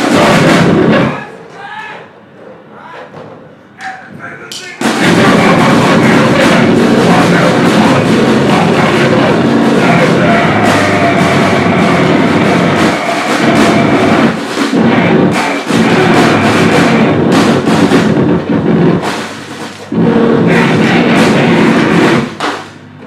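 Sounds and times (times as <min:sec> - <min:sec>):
pounding drums: 0:00.0 - 0:01.9, 0:03.1 - 0:23.0
distorted noise music: 0:00.0 - 0:23.0.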